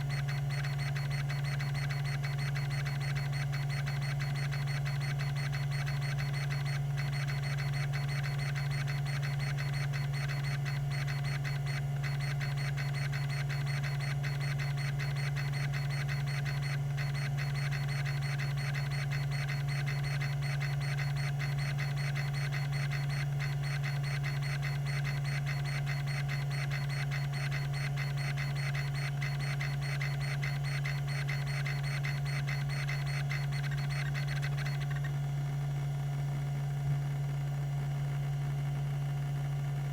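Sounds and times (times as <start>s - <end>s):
hard drive head chattering: 0.0s - 35.1s
hard drive spindle hum: 0.0s - 39.9s.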